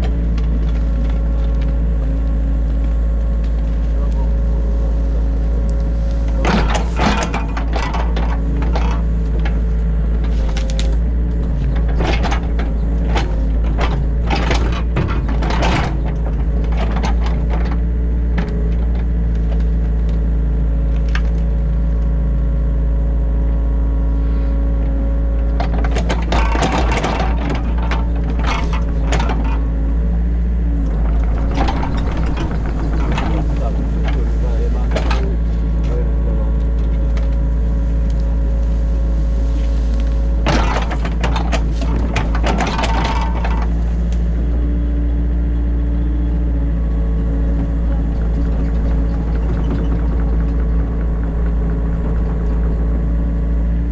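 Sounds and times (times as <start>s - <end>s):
excavator clicks knocks and scrapes: 0.0s - 20.3s, 24.3s - 30.2s, 30.8s - 44.6s, 47.0s - 53.9s
diesel engine droning: 0.0s - 53.9s.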